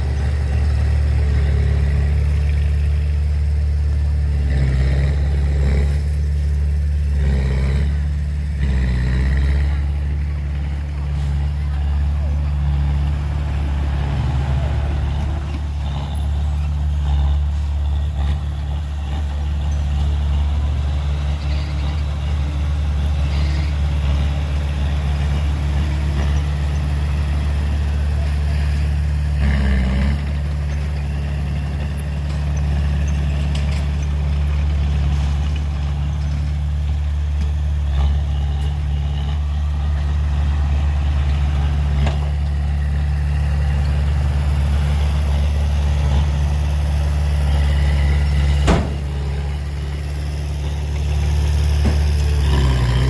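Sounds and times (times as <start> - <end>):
heavy diesel engine running: 0.0 - 53.0.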